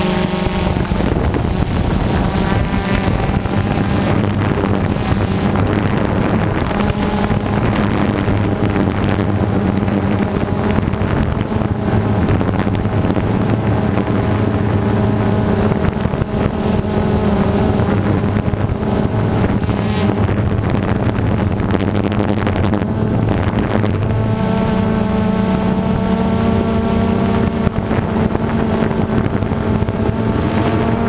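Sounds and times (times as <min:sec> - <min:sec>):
aircraft motor drone: 0:00.0 - 0:31.0
wind noise on microphone: 0:00.0 - 0:31.0.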